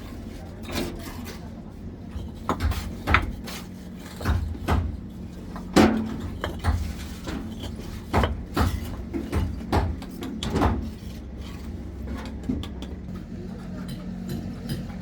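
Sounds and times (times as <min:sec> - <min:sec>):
bricks knocking and clunking: 0:00.4 - 0:15.0.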